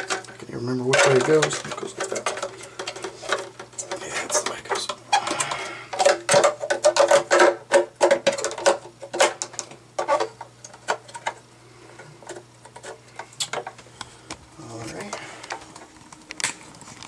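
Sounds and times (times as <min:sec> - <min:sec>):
hard plastic clicking and rattling: 0:00.0 - 0:11.4, 0:12.0 - 0:14.4.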